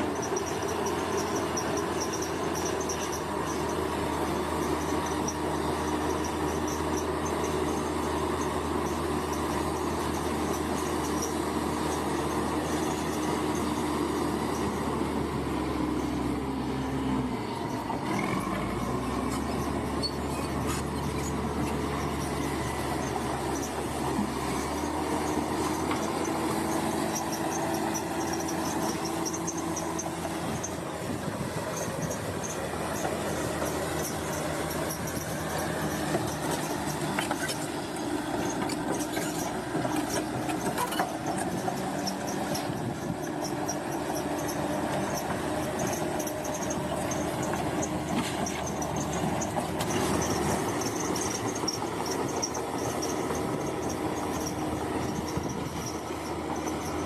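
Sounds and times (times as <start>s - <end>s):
bulldozer diesel engine running: 0.0s - 57.0s
steel tracks squealing and clanking: 0.0s - 57.0s.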